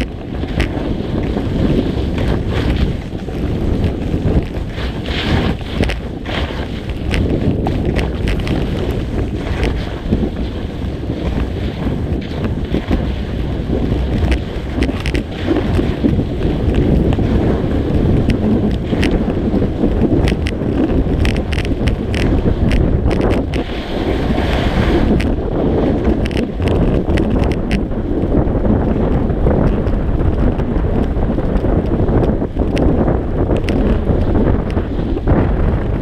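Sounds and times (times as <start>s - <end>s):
skis scraping packed snow: 0.0s - 36.0s
wind buffeting microphone: 0.0s - 36.0s.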